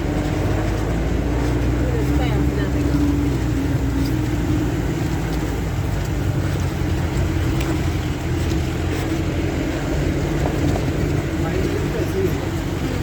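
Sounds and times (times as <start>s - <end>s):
jeep engine rumbling: 0.0s - 13.0s.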